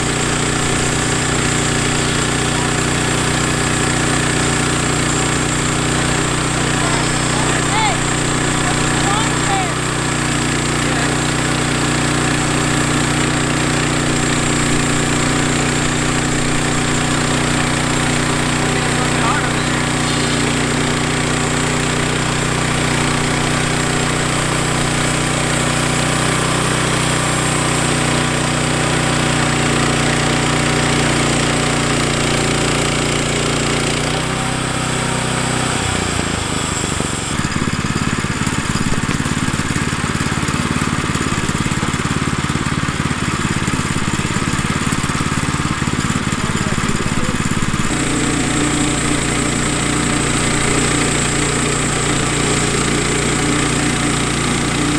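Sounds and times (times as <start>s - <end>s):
band blade sawing wood: 0.0s - 37.6s, 46.2s - 54.9s
gas engine running under load: 0.0s - 54.9s.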